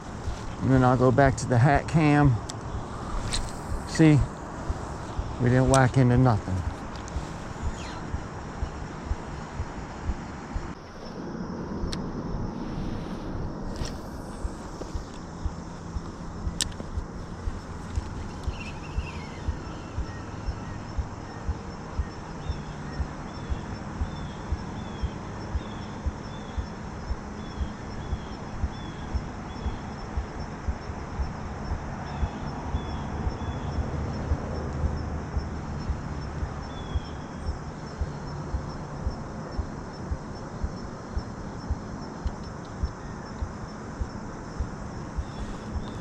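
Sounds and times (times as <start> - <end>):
bird chirping: 0.0 - 10.8, 13.8 - 44.2, 45.0 - 46.0.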